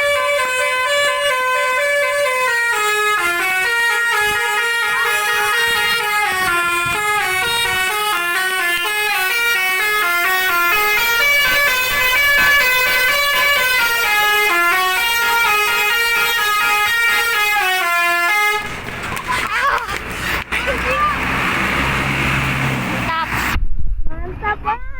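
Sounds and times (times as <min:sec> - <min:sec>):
musical air horns playing a tune: 0:00.0 - 0:18.9, 0:22.0 - 0:23.6.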